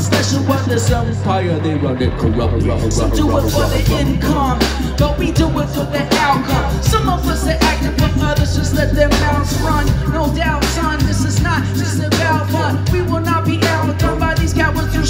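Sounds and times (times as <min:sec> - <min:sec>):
bass guitar: 0:00.0 - 0:15.0
drums: 0:00.0 - 0:15.0
person singing into microphone: 0:02.4 - 0:15.0.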